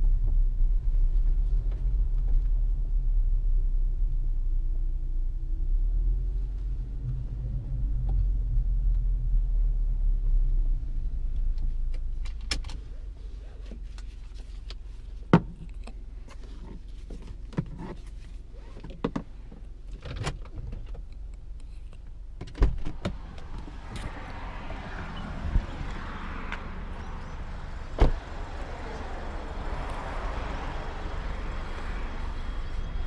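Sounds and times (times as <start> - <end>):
car low rumble: 0.0 - 33.0.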